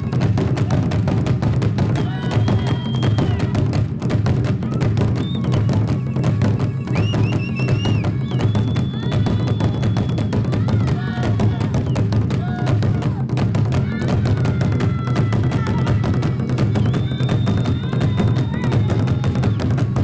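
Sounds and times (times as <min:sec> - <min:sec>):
drums beaten rapidly with sticks: 0:00.0 - 0:20.0.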